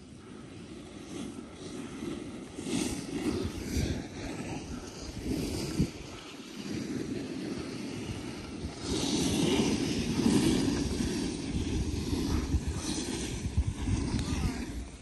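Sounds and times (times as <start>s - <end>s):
board edges scraping snow: 0.0s - 15.0s
rumble of riding on snow: 0.0s - 15.0s
wind over microphone: 0.0s - 15.0s.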